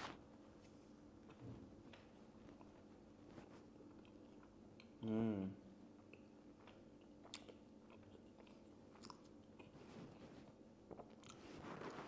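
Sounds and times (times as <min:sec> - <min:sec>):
faint chewing: 0:01.2 - 0:05.3, 0:05.9 - 0:12.0.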